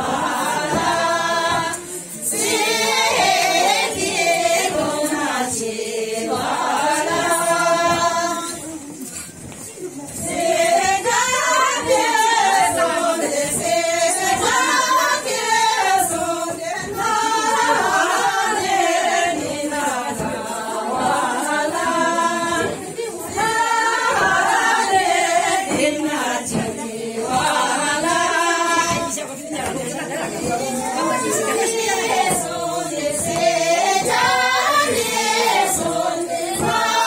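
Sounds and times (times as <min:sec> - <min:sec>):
women singing in unison: 0:00.0 - 0:37.0.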